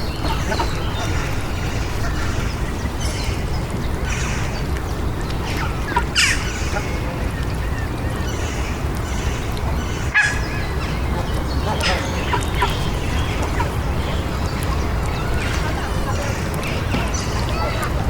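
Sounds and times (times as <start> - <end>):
birds calling: 0.0 - 18.0
distant city traffic: 0.0 - 18.0.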